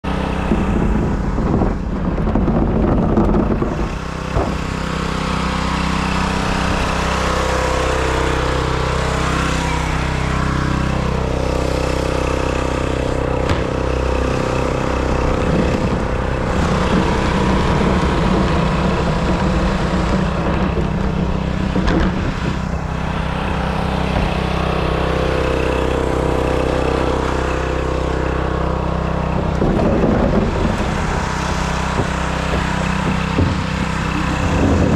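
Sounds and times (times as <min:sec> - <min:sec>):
pressure washer running: 0:00.0 - 0:34.9.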